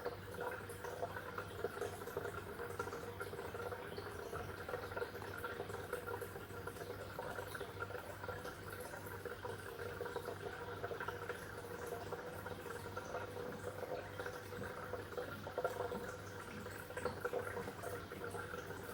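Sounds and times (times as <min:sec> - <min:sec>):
low steady hum: 0:00.0 - 0:18.9
water bubbling and trickling: 0:00.0 - 0:18.9.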